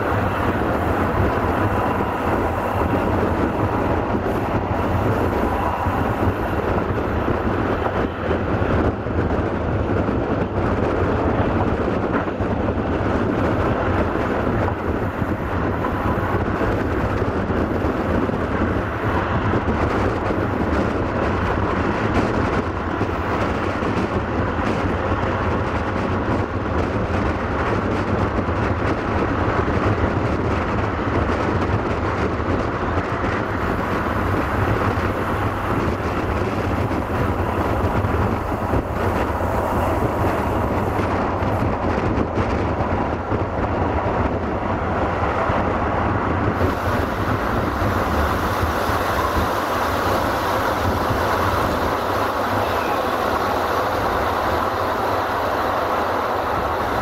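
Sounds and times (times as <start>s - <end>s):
train wheels rumbling on rails: 0.0s - 57.0s
wind rushing past microphone: 0.0s - 57.0s.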